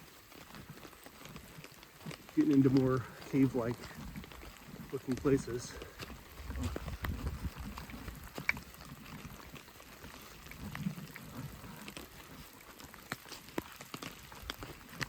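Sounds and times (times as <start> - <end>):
faint low rustle: 0.0 - 15.0
raindrops ticking: 0.0 - 15.0.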